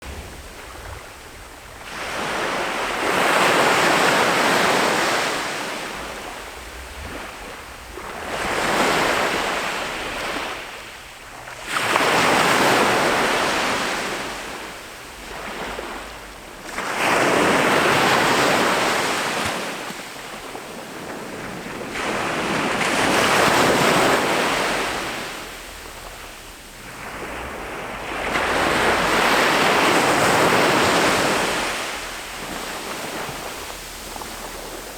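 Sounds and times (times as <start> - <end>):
ocean surf breaking: 0.0 - 34.9.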